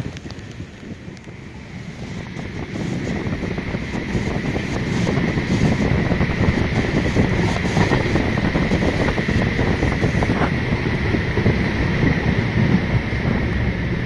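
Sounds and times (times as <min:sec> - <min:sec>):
thin steady whine: 0:00.0 - 0:14.0
train wheels rumbling on track: 0:00.0 - 0:14.0
wind buffeting microphone: 0:00.0 - 0:14.0.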